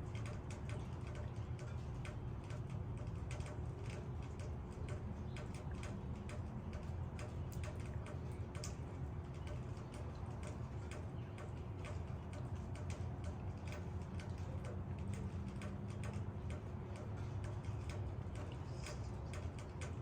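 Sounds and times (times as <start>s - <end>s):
low steady rumble: 0.0s - 20.0s
rain dripping on leaves: 0.0s - 20.0s.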